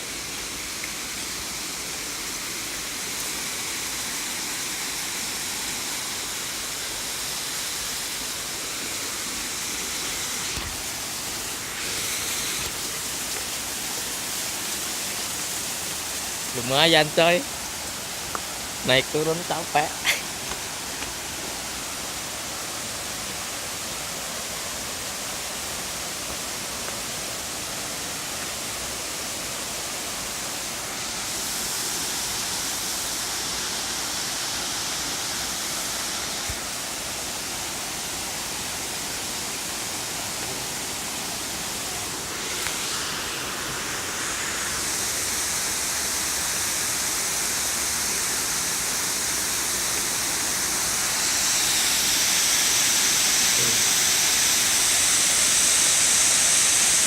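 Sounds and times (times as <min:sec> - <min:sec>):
waterfall pouring: 0:00.4 - 0:57.0.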